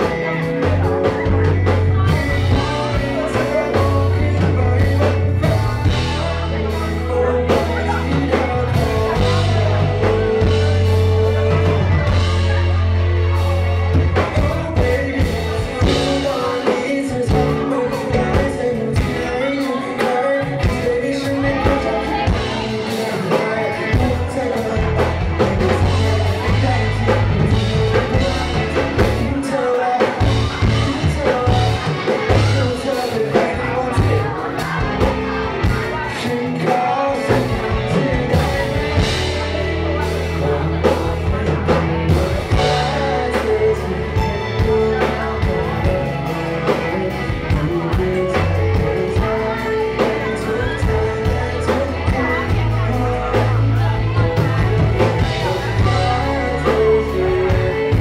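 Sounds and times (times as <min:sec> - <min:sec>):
guitar: 0:00.0 - 0:58.0
held bass notes: 0:00.0 - 0:58.0
person singing: 0:00.0 - 0:58.0
steady drum beat: 0:00.0 - 0:58.0.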